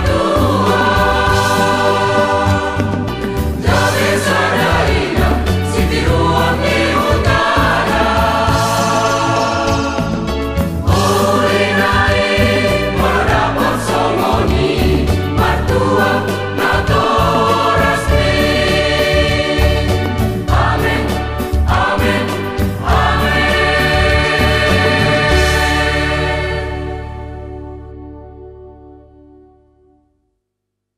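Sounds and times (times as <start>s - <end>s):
church choir singing: 0.0s - 28.0s.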